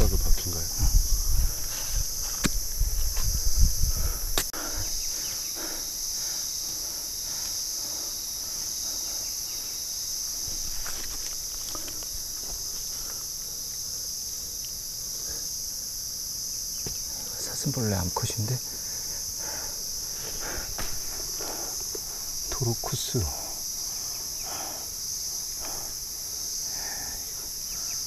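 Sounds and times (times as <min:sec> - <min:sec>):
insect chorus buzzing: 0:00.0 - 0:28.0.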